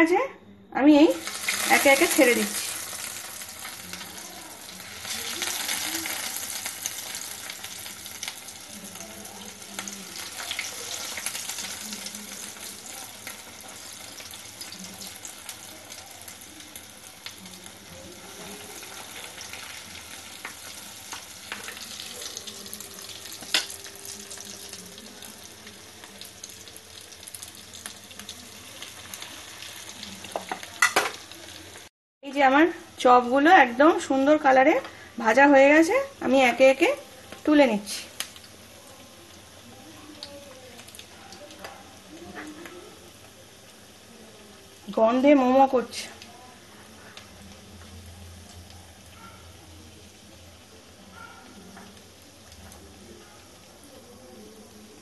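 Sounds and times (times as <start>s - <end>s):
fish deep-frying in hot oil: 1.0s - 55.0s.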